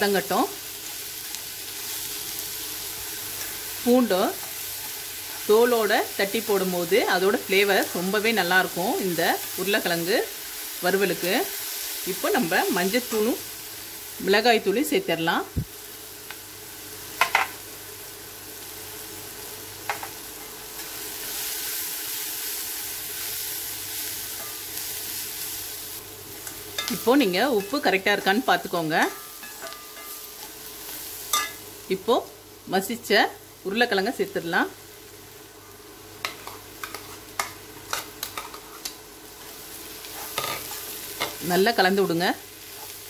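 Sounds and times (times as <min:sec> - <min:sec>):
onions sizzling in oil: 0:00.0 - 0:43.0.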